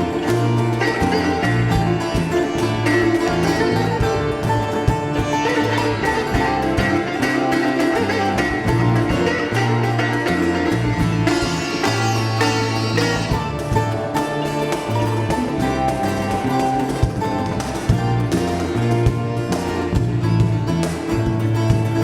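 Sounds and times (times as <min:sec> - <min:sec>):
guitar: 0:00.0 - 0:22.0
percussion strokes: 0:00.0 - 0:22.0
plucked sitar: 0:00.0 - 0:22.0
walking bass line: 0:00.0 - 0:22.0.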